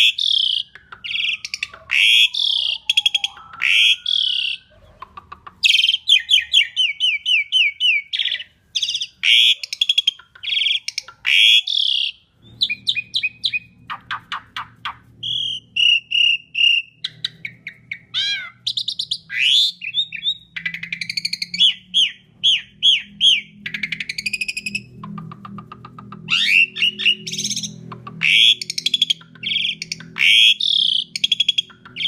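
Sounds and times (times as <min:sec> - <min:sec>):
starling singing: 0:00.0 - 0:25.3, 0:26.1 - 0:32.0
faint low hum: 0:00.0 - 0:32.0.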